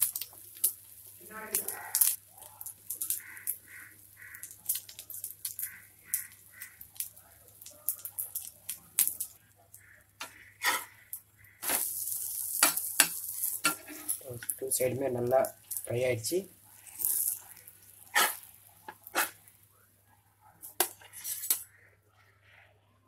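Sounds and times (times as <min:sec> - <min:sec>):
omelette sizzling in oil: 0:00.0 - 0:19.9, 0:20.6 - 0:21.7.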